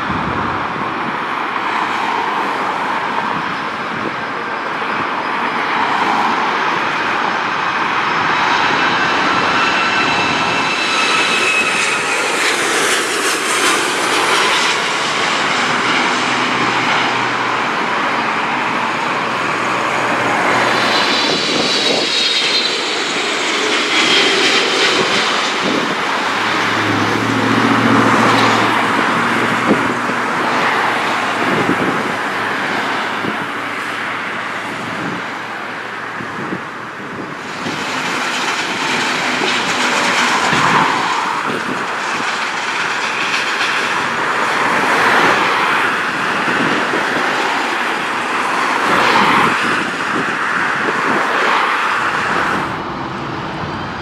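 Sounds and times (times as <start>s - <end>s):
highway traffic: 0.0s - 54.0s
jet airliners roaring: 0.0s - 54.0s
landing jet engine whine: 0.0s - 54.0s.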